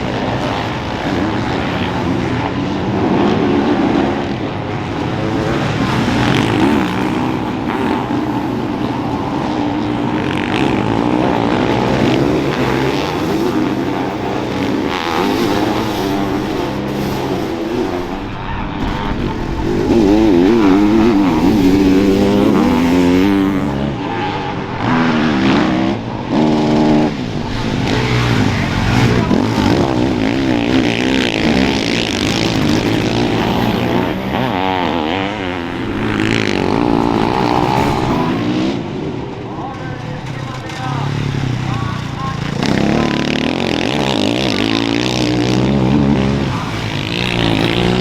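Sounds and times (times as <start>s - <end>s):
motocross engines revving: 0.0s - 48.0s.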